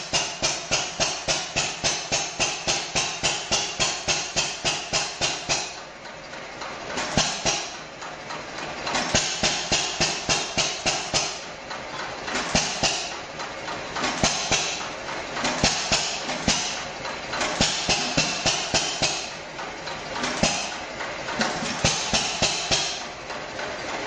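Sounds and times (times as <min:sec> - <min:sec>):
stationary engine knocking: 0:00.0 - 0:24.0.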